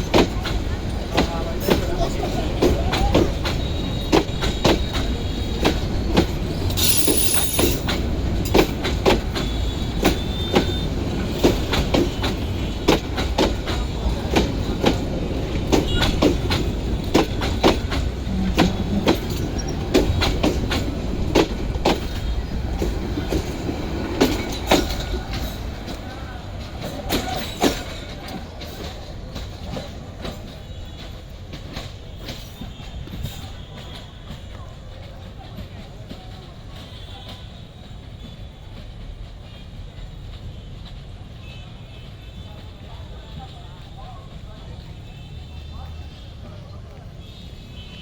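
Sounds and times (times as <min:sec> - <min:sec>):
train wheels clacking: 0:00.0 - 0:41.5.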